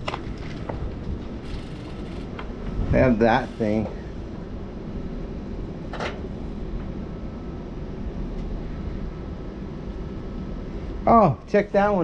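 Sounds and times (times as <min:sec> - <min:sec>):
bike rolling noise: 0:00.0 - 0:10.0
wind rumble on microphone: 0:00.0 - 0:12.0.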